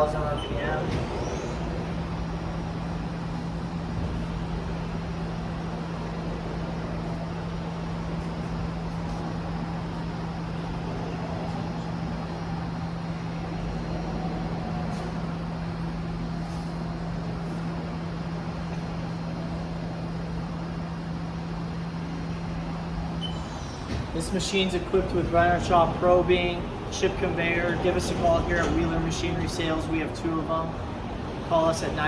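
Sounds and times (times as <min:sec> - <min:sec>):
machine spindle humming and whirring: 0:00.0 - 0:32.0.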